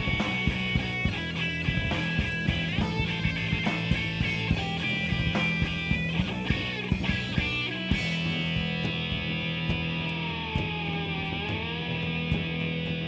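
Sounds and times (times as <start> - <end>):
electric guitar chord: 0.0 - 11.6
drums: 0.0 - 13.0.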